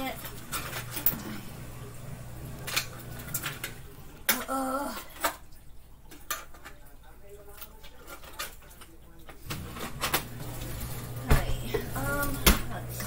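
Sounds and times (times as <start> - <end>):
metal utensils clattering: 0.0 - 1.9, 2.5 - 13.0.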